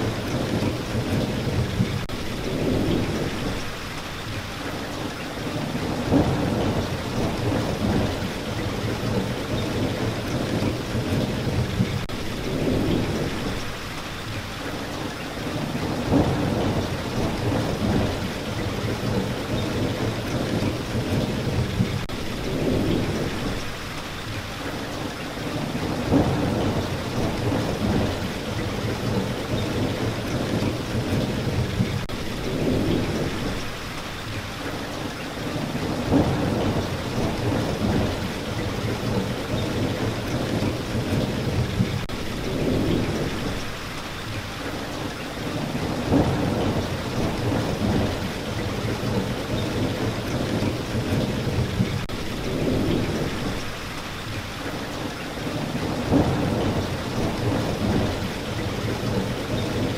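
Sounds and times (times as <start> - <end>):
low rolling thunder: 0.0 - 3.8, 5.4 - 13.8, 15.4 - 23.8, 25.4 - 33.8, 35.4 - 43.8, 45.4 - 53.8, 55.4 - 59.9
steady rain: 0.0 - 59.9.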